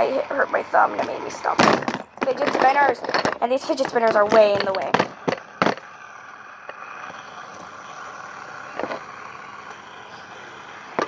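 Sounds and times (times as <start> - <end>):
fidget spinners whirring: 0.0 - 11.0.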